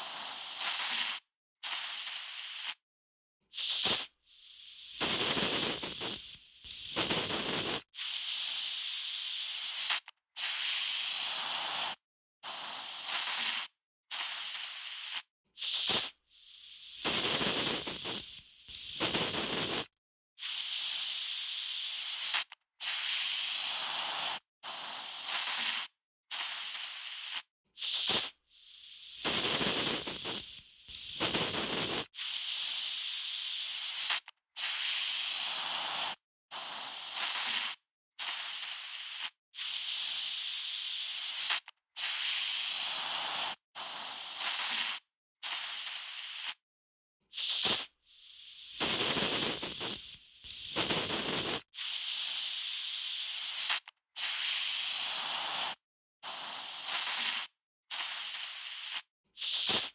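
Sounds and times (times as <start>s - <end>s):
aerosol spray can hissing: 0.0s - 2.8s, 3.5s - 46.6s, 47.3s - 59.9s.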